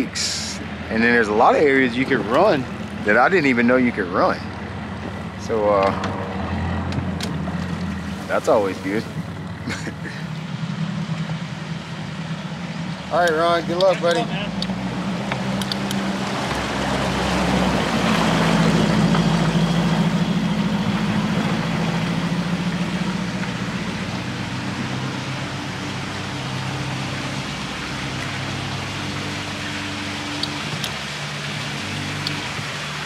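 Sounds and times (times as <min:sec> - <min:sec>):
outboard motor idling: 0:00.0 - 0:33.0.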